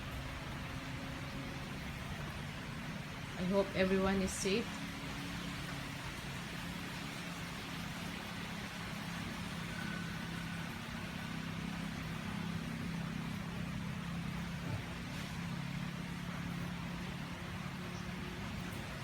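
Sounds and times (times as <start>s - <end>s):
engine-like hum: 0.0s - 19.0s.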